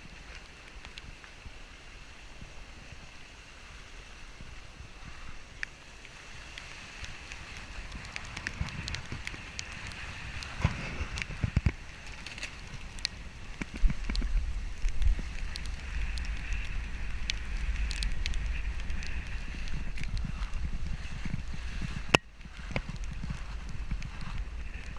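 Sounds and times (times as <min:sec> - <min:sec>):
twigs and gravel crackling: 0:00.0 - 0:24.9
vehicle low rumble: 0:00.0 - 0:24.9.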